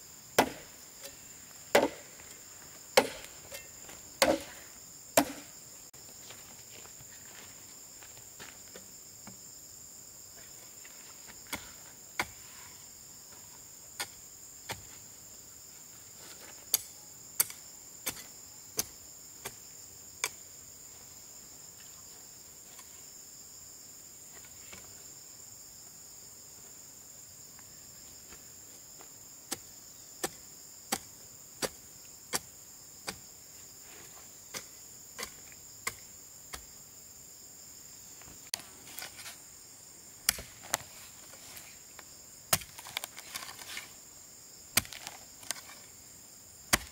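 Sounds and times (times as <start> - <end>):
high drone of insects: 0.0 - 46.9.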